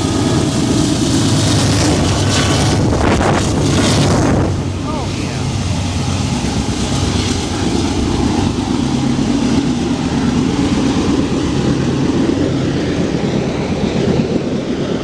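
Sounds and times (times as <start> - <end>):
diesel engine drone: 0.0 - 15.0
freight train rumbling past: 0.0 - 15.0.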